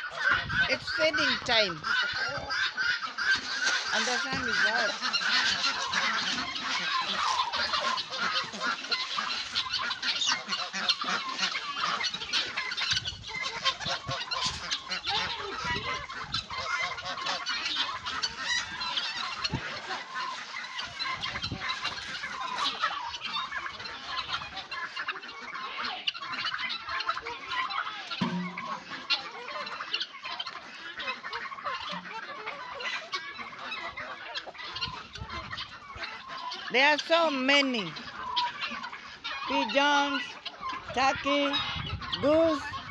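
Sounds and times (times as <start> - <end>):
poultry clucking gobbling and honking: 0.0 - 42.9.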